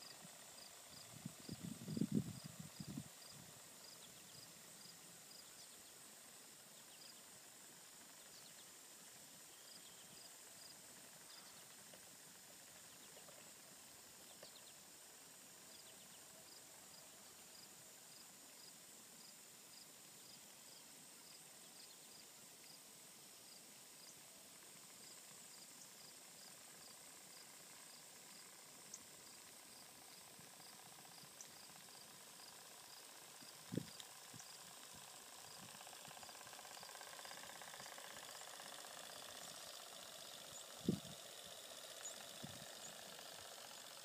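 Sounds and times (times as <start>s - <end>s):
insect chirping: 0.0s - 11.7s, 12.7s - 24.2s, 24.8s - 44.0s
insects droning: 0.0s - 44.0s.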